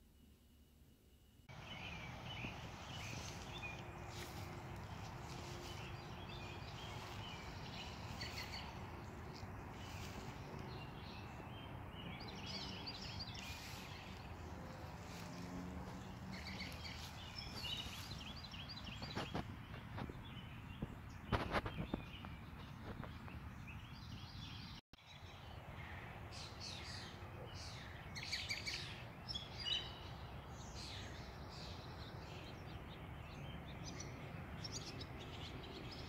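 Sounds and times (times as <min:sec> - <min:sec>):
outdoor background noise: 0:00.0 - 0:36.0
birds chirping: 0:01.2 - 0:36.0.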